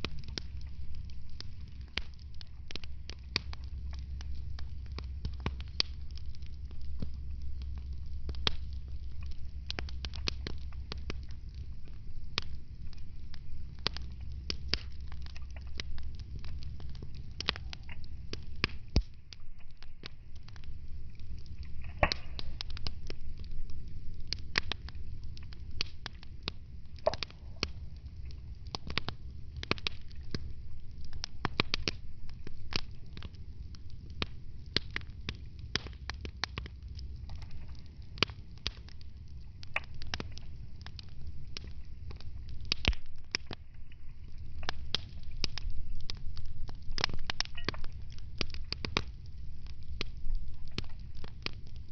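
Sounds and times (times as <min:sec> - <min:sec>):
low rumble: 0:00.0 - 0:51.9
wood fire crackling and popping: 0:00.0 - 0:51.9.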